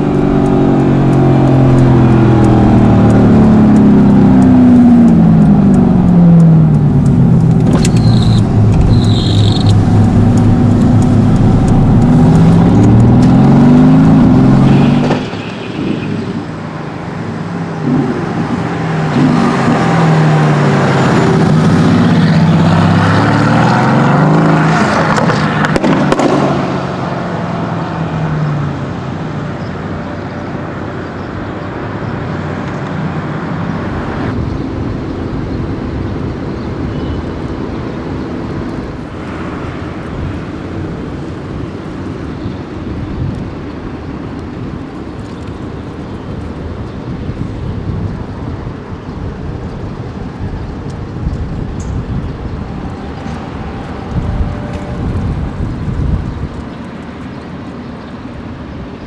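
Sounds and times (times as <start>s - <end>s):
car engine roaring: 0.0s - 59.0s
low rumble of car driving: 0.0s - 59.0s.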